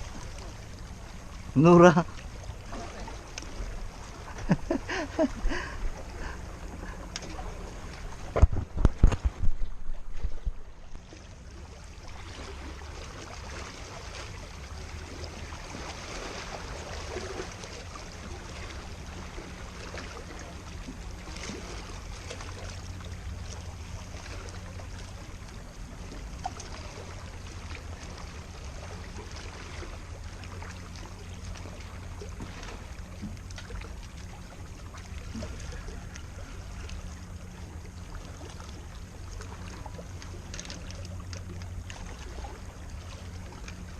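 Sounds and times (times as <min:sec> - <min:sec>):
low steady hum: 0:00.0 - 0:43.9
water: 0:00.0 - 0:43.9
wind: 0:00.0 - 0:43.9.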